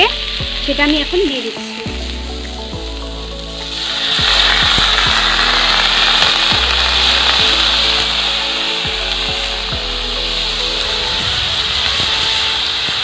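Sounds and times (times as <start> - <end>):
rice sizzling in hot oil: 0.0 - 13.0.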